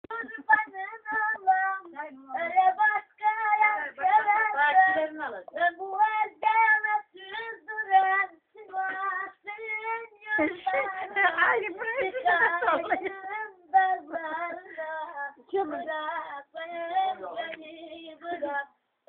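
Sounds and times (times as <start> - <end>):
high voice singing unaccompanied: 0.1 - 18.8.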